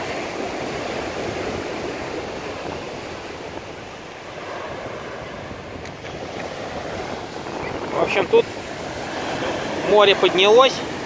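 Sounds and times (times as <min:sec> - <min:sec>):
waves washing up pebbly shore: 0:00.0 - 0:11.0.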